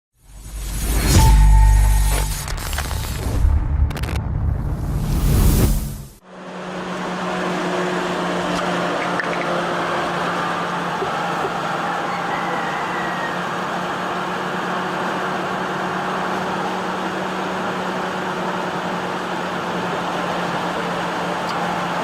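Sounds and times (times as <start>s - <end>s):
motor vehicle hum: 0.3s - 22.0s.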